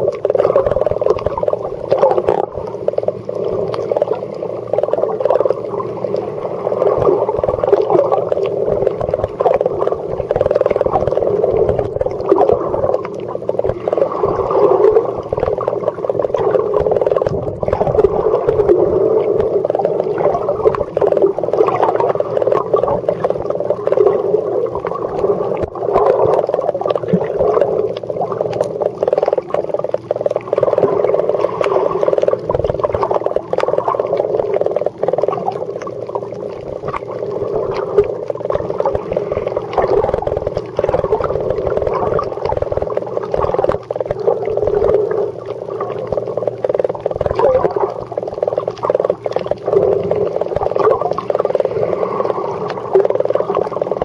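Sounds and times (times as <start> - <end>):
dull underwater rushing: 0.0 - 54.0
faint clicks and crackles: 0.0 - 54.0.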